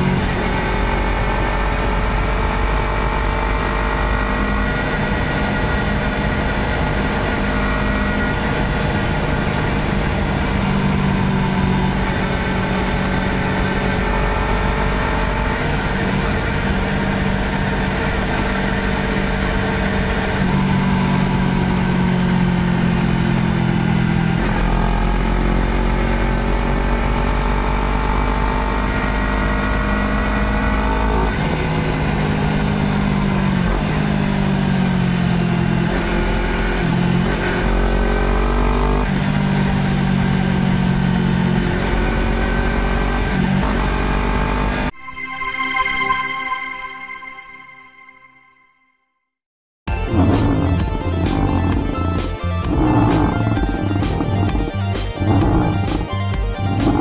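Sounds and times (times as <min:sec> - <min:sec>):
motorcycle engine revving: 0:00.0 - 0:44.9, 0:49.9 - 0:57.0.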